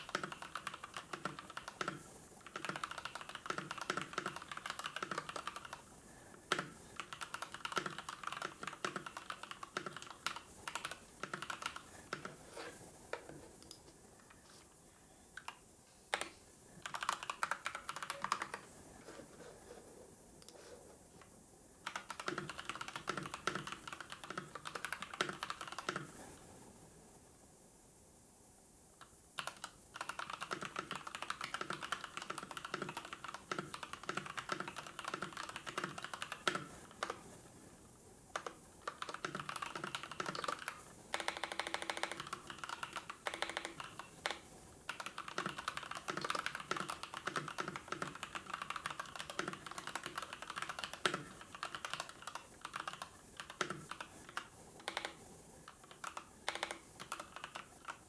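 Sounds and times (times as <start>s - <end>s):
computer keyboard typing: 0.0s - 12.4s, 15.4s - 18.8s, 21.8s - 26.3s, 29.4s - 37.3s, 38.3s - 58.0s.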